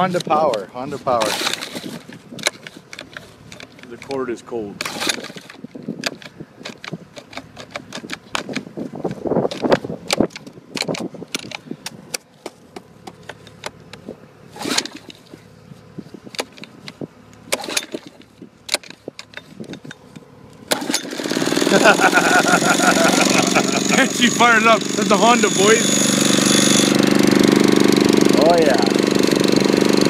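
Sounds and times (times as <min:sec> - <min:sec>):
small engine turning over: 0:00.0 - 0:12.3, 0:12.9 - 0:30.0
recoil cord pulled: 0:00.1 - 0:15.4, 0:16.2 - 0:30.0.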